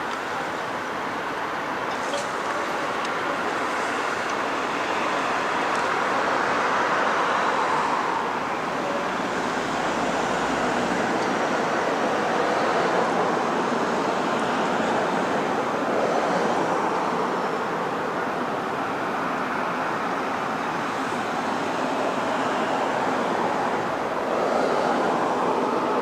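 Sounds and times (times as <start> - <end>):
road traffic passing at speed: 0.0 - 26.0.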